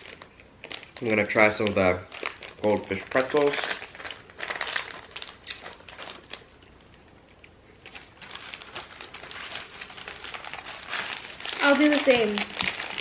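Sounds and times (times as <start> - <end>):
plastic snack pouch crinkling: 0.0 - 7.0, 7.8 - 13.0.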